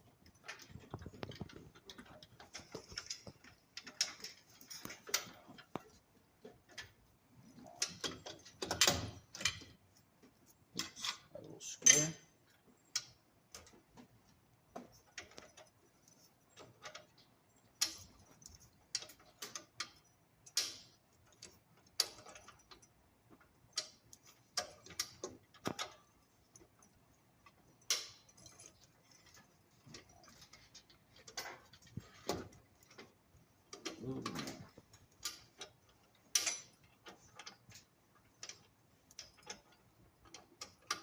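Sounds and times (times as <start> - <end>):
metal parts and tools clicking: 0.0 - 41.0.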